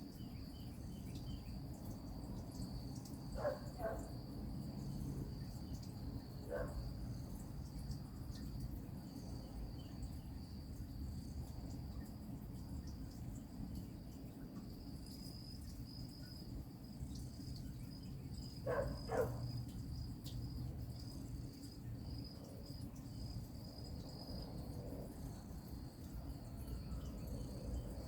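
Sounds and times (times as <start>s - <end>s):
insects chirping in a trill: 0.0s - 28.0s.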